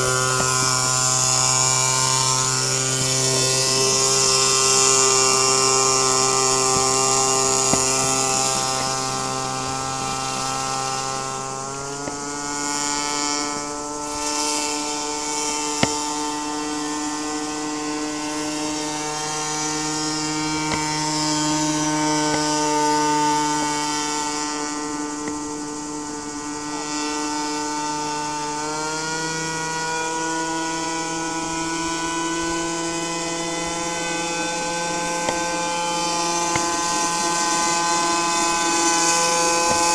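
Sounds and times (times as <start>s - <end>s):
small engine and propeller buzzing: 0.0s - 39.9s.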